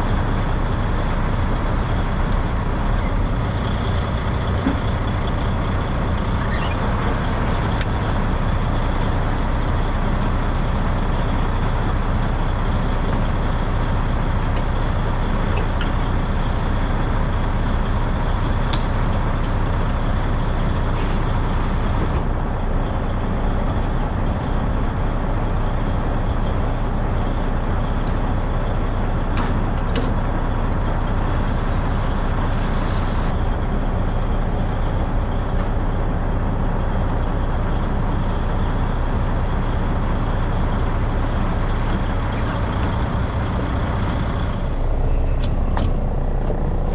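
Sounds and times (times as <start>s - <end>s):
diesel truck engine droning: 0.0s - 46.9s.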